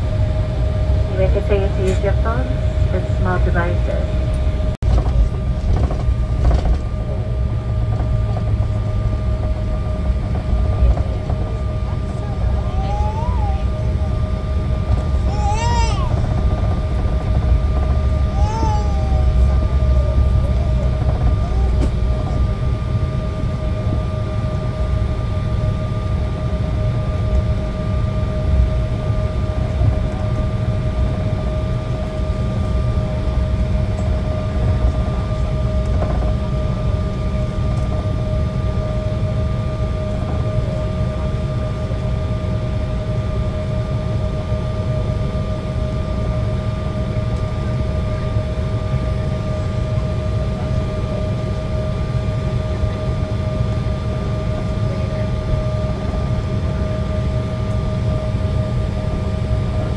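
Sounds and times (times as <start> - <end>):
aircraft cabin rumble: 0.0 - 59.9
constant whine: 0.0 - 59.9.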